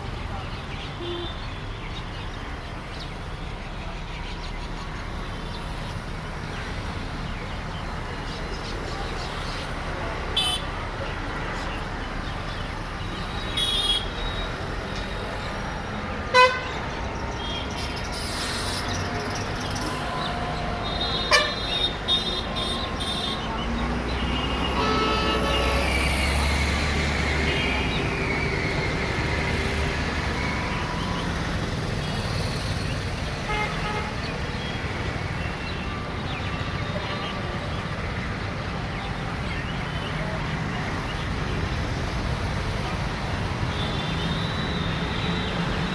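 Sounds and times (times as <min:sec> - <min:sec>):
road traffic noise: 0:00.0 - 0:45.9.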